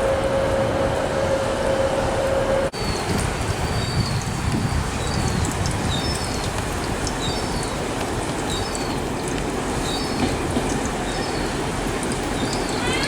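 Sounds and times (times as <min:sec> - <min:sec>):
train rumbling and hissing: 0:00.0 - 0:13.0.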